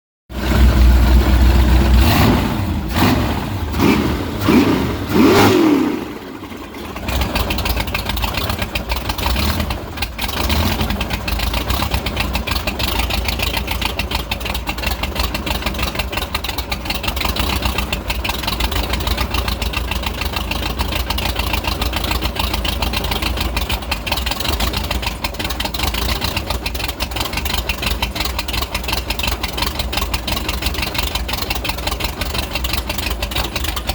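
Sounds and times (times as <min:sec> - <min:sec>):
engine revving: 0:00.3 - 0:31.2
engine rough idle: 0:00.3 - 0:33.9.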